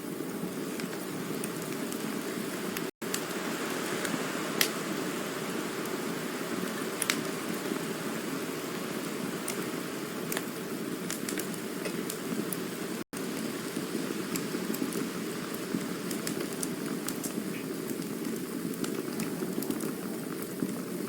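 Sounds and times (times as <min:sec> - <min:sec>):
burning wood crackling and popping: 0:00.0 - 0:21.0
campfire low rushing: 0:00.0 - 0:21.0.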